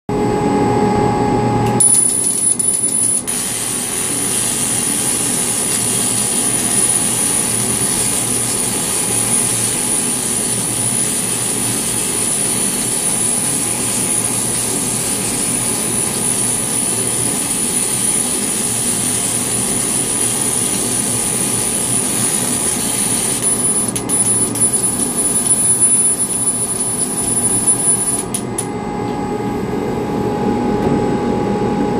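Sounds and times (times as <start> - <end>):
laser cutting machine running: 0.1 - 31.9
thin high whine: 0.1 - 31.9.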